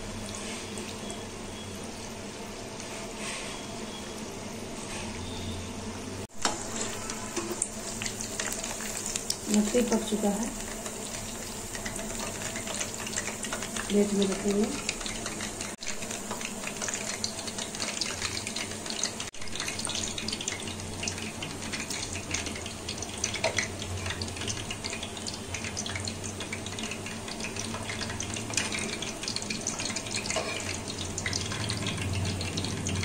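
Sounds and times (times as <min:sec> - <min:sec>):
hot oil sizzling and crackling: 0:00.0 - 0:33.0.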